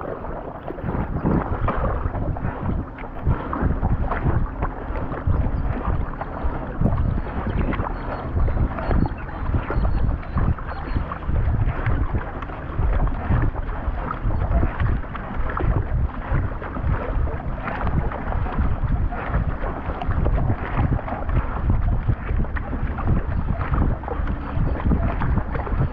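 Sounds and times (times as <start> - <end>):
paddle strokes: 0.0 - 25.9
water rushing and splashing: 0.0 - 25.9
wind buffeting on microphone: 0.0 - 25.9.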